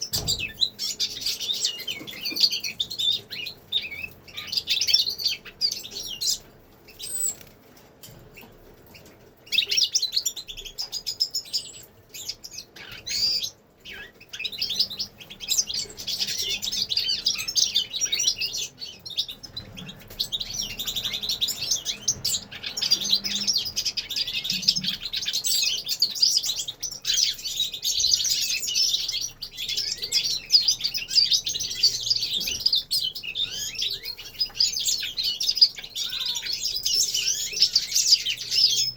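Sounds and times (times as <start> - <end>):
finches twittering and trilling: 0.0 - 38.9.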